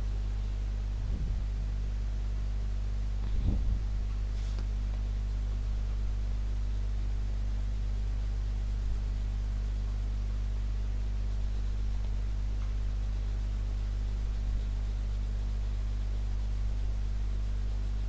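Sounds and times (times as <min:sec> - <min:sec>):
constant hiss: 0:00.0 - 0:18.0
low electrical hum: 0:00.0 - 0:18.0.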